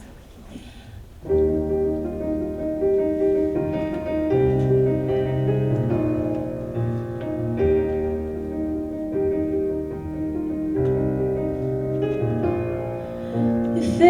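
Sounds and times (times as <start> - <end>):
piano chords: 1.0 - 14.0.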